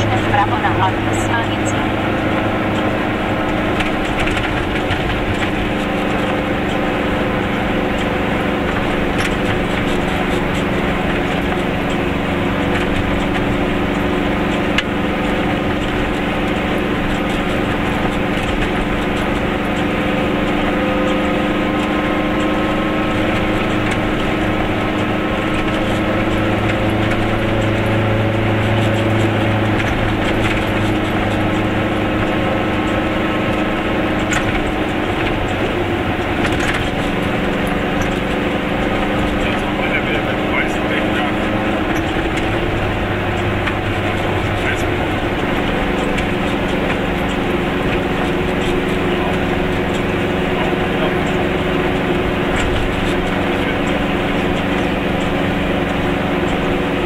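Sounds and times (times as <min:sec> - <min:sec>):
two-stroke car engine running: 0:00.0 - 0:57.0.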